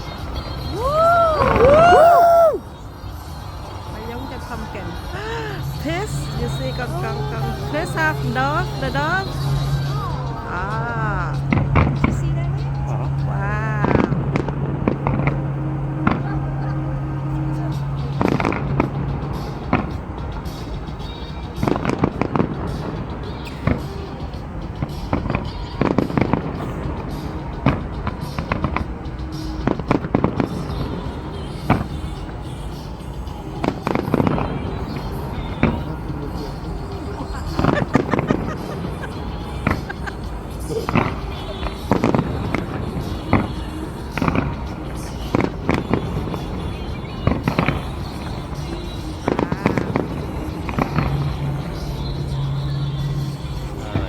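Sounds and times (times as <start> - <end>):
background music: 0.0 - 54.0
fireworks bangs: 0.0 - 54.0.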